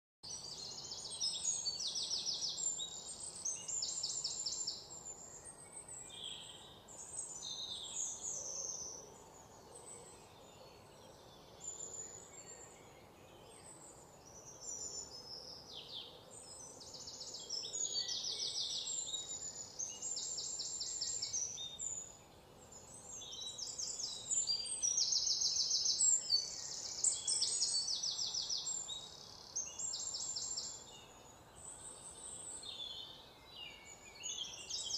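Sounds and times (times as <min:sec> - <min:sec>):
birds chirping and trilling: 0:00.3 - 0:34.9.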